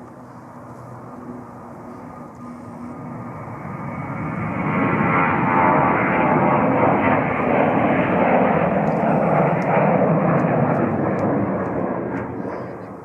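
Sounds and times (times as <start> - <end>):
jet airliner passing: 0.0 - 13.0.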